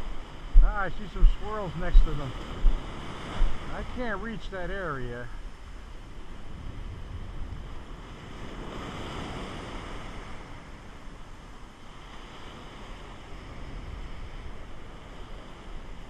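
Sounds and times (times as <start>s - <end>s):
wind buffeting microphone: 0.0s - 4.2s, 4.8s - 11.5s, 12.1s - 16.0s
ocean surf washing: 0.0s - 16.0s.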